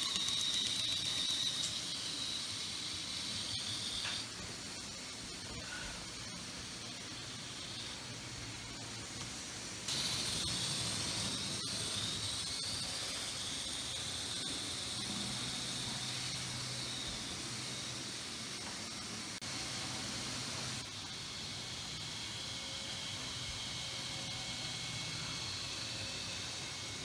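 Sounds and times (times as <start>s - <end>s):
model train motor whine: 0.0s - 8.9s, 9.8s - 27.0s
steady hiss: 0.0s - 27.0s.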